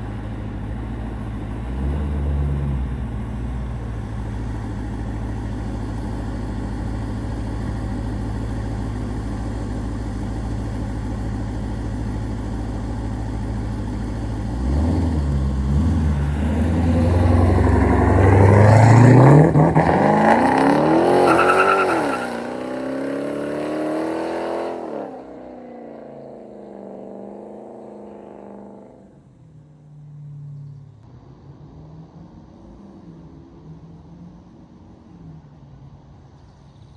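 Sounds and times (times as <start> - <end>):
car engine accelerating: 0.0 - 35.3.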